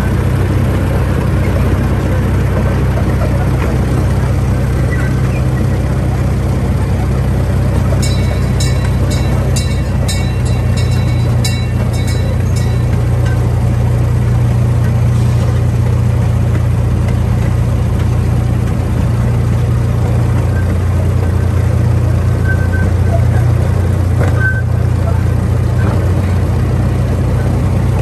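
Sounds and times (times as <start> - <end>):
ride train engine humming: 0.0 - 28.0.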